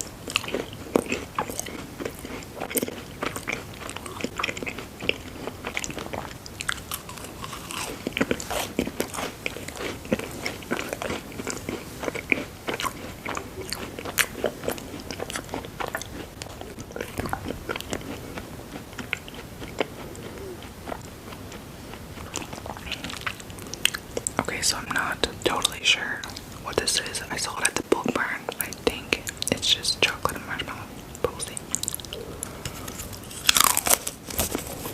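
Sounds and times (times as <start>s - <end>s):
person chewing crunchy sweets: 0.0s - 34.9s.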